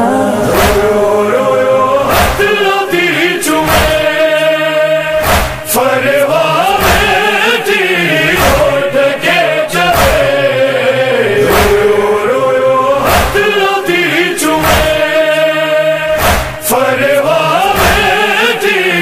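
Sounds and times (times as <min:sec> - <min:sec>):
heavy beats: 0:00.3 - 0:07.6, 0:08.2 - 0:18.6.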